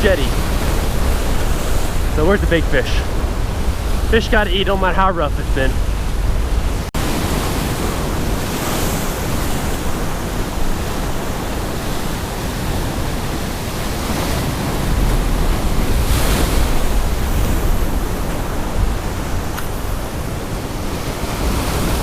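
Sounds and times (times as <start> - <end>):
surf crashing on rocks: 0.0 - 22.0
wind buffeting microphone: 0.0 - 22.0.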